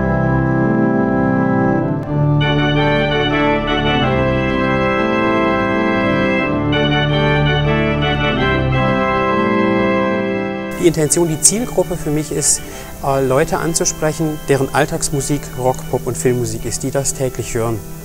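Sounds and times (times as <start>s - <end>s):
pipe organ playing chords: 0.0s - 18.0s.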